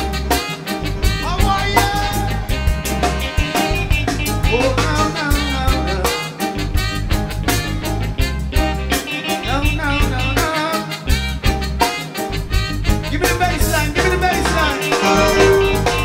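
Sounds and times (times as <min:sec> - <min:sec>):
reggae band playing: 0:00.0 - 0:16.0.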